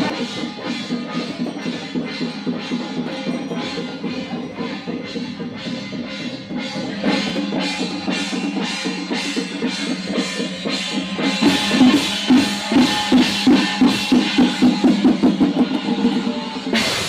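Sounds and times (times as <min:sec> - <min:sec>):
ceremonial percussion: 0:00.0 - 0:17.0
drum beating: 0:00.0 - 0:17.0.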